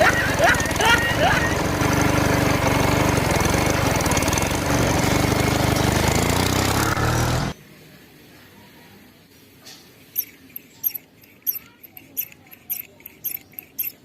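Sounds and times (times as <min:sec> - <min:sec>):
small diesel engine rattling: 0:00.0 - 0:07.5, 0:10.0 - 0:14.0.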